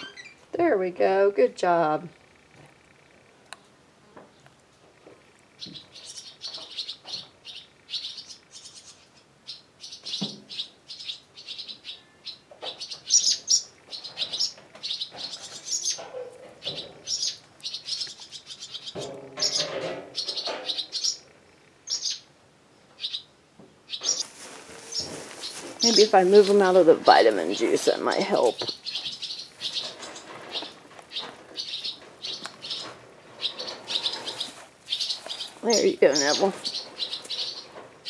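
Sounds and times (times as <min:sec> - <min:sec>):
small birds chirping: 0:05.4 - 0:22.3, 0:22.9 - 0:38.0.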